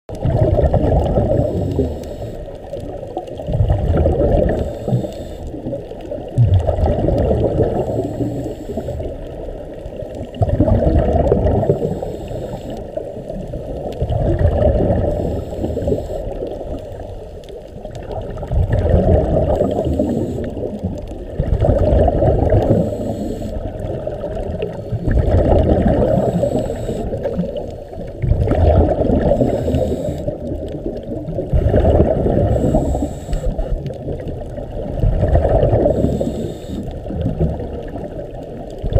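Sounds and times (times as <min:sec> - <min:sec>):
underwater regulator breathing bubbles: 0:00.2 - 0:02.6, 0:03.4 - 0:05.7, 0:06.4 - 0:09.2, 0:10.4 - 0:13.0, 0:14.0 - 0:16.8, 0:18.0 - 0:34.0, 0:35.0 - 0:37.5.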